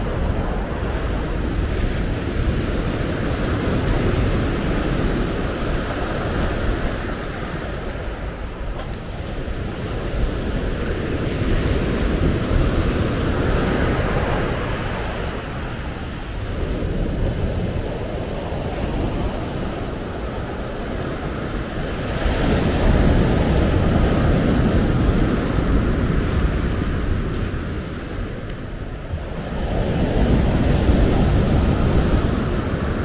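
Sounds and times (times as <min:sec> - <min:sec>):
waves breaking on beach: 0:00.0 - 0:33.0.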